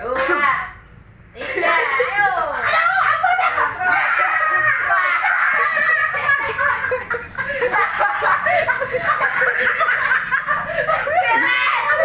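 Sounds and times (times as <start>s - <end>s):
people laughing loudly: 1.4s - 12.0s.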